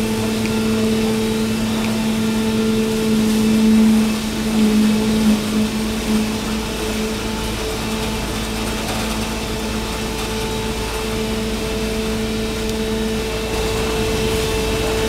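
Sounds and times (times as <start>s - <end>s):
mechanical drone: 0.0s - 15.0s
steady motor hum: 0.0s - 15.0s.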